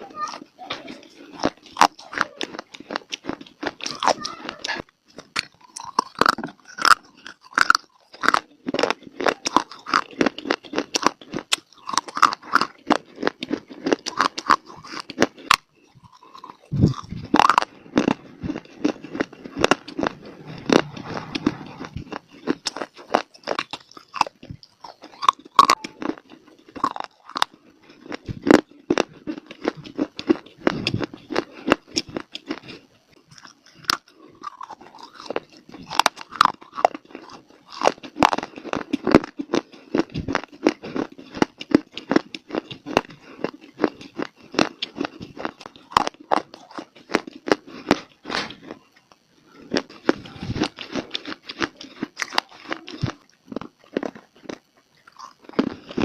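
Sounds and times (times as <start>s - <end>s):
crunching and chewing dry clay: 0.0s - 56.0s.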